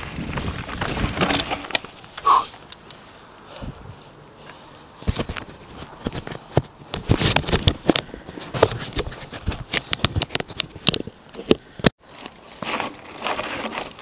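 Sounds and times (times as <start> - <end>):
bike and camera rattling: 0.0 - 14.0.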